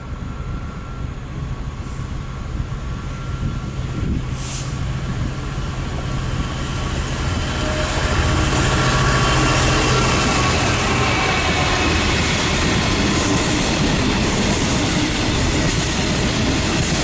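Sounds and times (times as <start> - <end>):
diesel locomotive engine drone: 0.0 - 17.0
train wheel and rail noise: 0.0 - 17.0.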